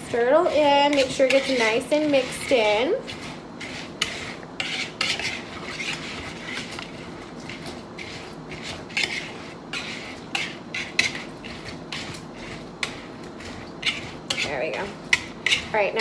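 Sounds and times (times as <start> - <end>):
utensil scraping and clinking bowl: 0.0 - 16.0.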